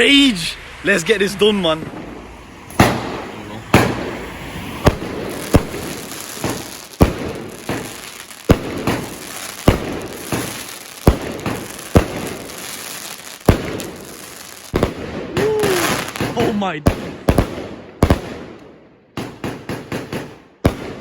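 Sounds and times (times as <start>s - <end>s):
fireworks bangs: 0.0s - 21.0s
fireworks crackling and hiss: 1.8s - 18.6s, 19.2s - 21.0s.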